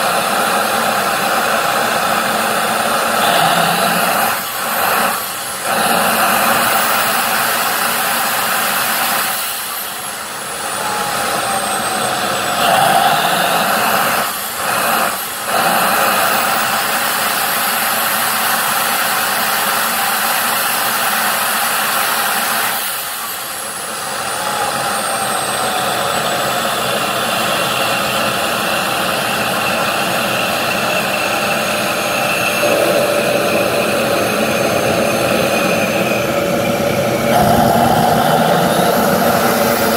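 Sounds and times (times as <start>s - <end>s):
jet engine roaring with turbine whine: 0.0s - 39.9s.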